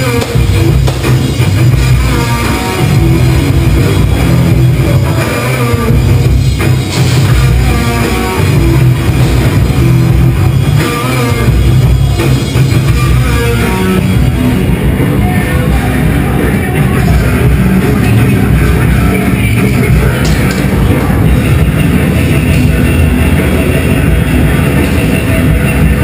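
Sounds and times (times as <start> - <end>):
loud rock music: 0.0 - 26.0.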